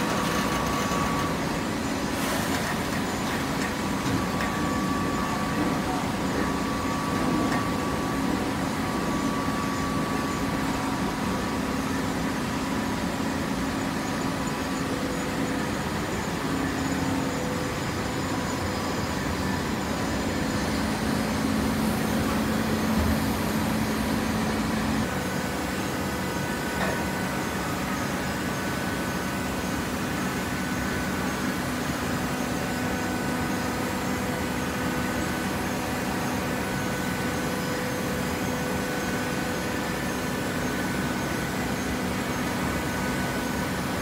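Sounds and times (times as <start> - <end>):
baling press machine hum: 0.0 - 44.0.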